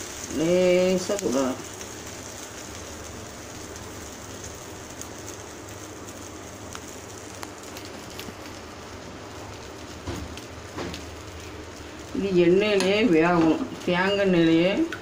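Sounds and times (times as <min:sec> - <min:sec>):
batter sizzling in oil: 0:00.0 - 0:15.0.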